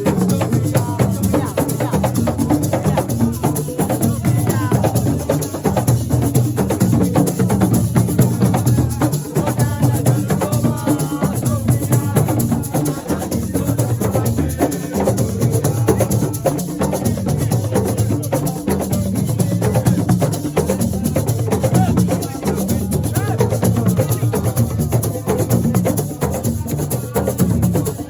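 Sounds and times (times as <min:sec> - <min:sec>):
drums: 0:00.0 - 0:28.0
shaker rattle: 0:00.0 - 0:28.0.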